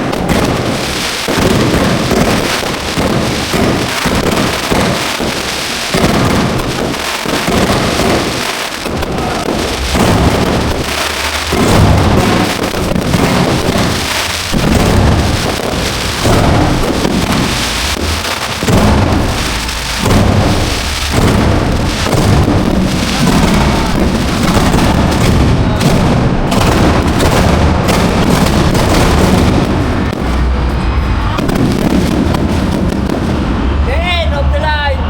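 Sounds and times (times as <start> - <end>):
deep fireworks booms: 0.0 - 34.4
fireworks crackling: 0.0 - 35.0.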